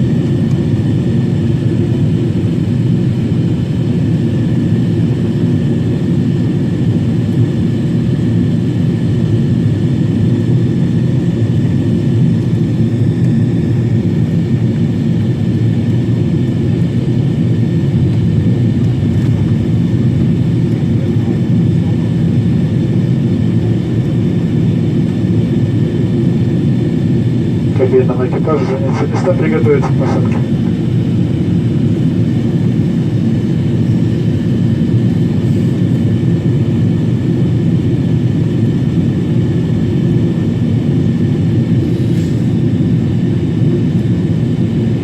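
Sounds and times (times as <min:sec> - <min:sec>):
jet engines and airflow rush: 0:00.0 - 0:45.0.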